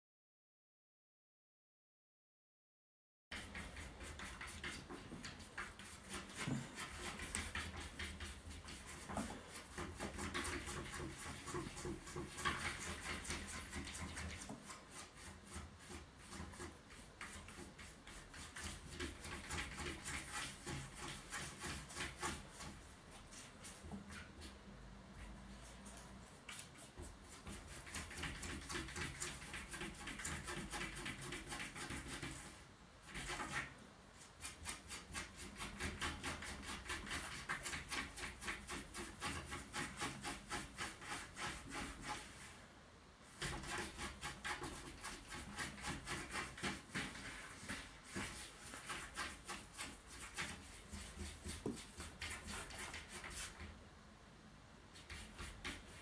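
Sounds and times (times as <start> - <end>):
cat scratching at door: 3.4 - 24.6, 26.5 - 33.8, 34.4 - 42.4, 43.3 - 53.7, 54.9 - 56.0.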